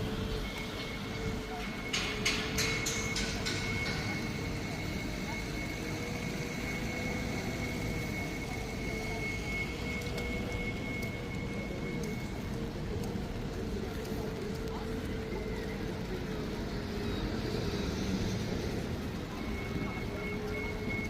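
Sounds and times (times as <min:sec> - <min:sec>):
constant high whine: 0:00.0 - 0:21.0.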